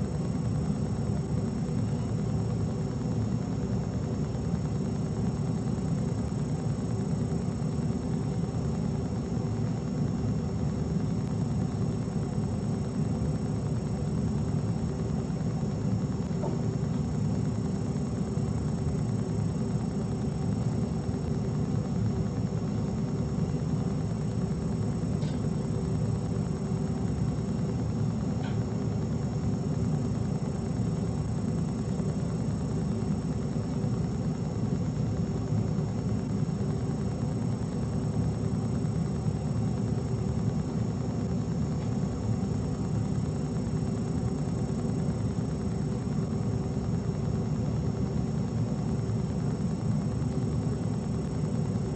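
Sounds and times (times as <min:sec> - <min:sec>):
faint steady whines: 0:00.0 - 0:51.9
room noise hum and rumble: 0:00.0 - 0:51.9.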